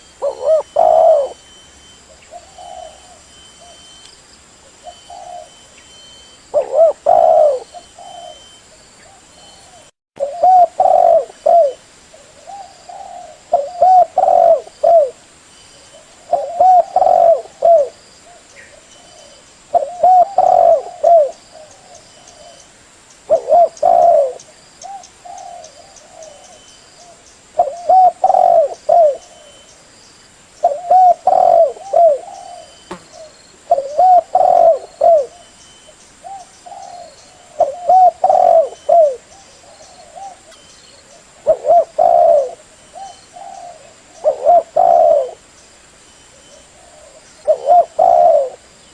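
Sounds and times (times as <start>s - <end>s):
dove cooing: 0.0s - 1.5s, 2.1s - 3.8s, 4.7s - 5.7s, 6.5s - 15.2s, 15.8s - 22.6s, 23.3s - 29.7s, 30.6s - 35.6s, 36.2s - 45.4s, 46.3s - 48.7s.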